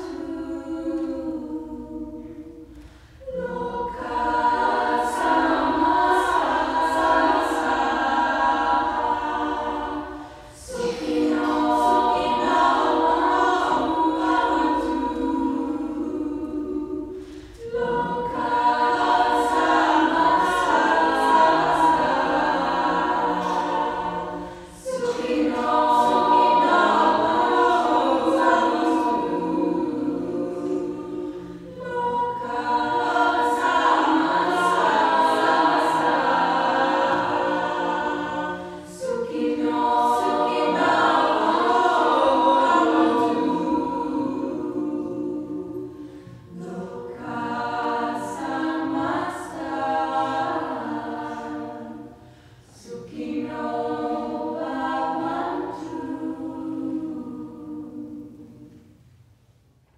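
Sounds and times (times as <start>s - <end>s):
women's choir singing: 0.0s - 59.9s.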